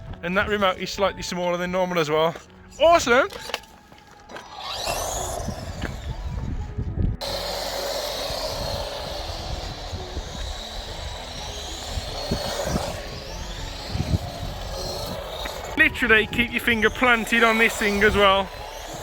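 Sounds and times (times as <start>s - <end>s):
small electric motors whining: 3.0s - 19.0s.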